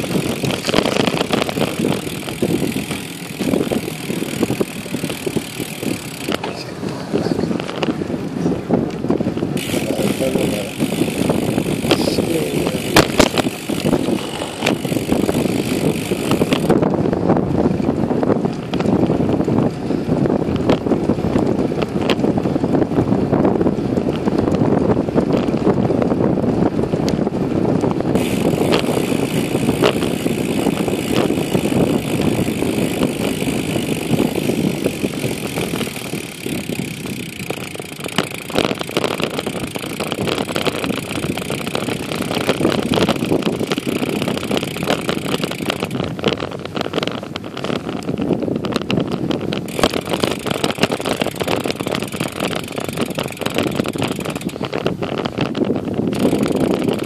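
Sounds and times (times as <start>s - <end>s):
bike clicks and knocks: 0.0s - 57.0s
wind on microphone: 0.0s - 57.0s.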